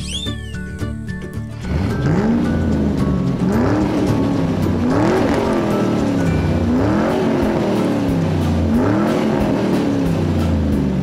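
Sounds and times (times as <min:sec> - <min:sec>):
background music: 0:00.0 - 0:11.0
steady low tones: 0:00.6 - 0:11.0
engine-like sound effect: 0:01.5 - 0:11.0.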